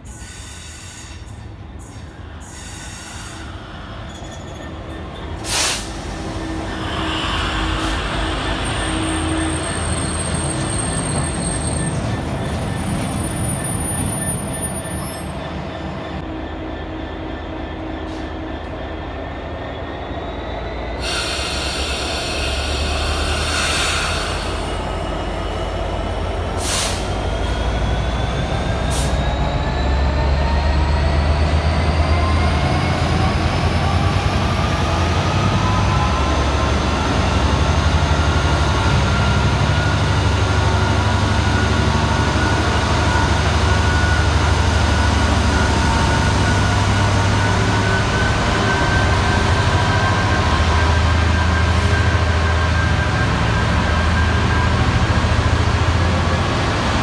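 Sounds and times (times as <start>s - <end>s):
locomotive engine rumble and whine: 0.0s - 57.0s.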